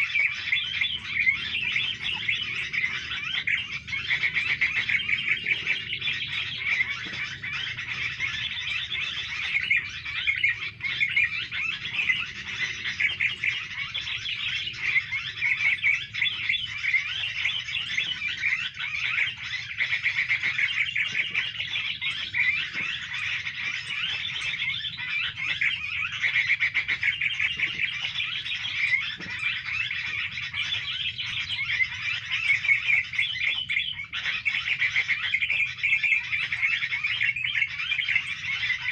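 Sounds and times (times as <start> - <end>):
small birds twittering: 0.0 - 38.9.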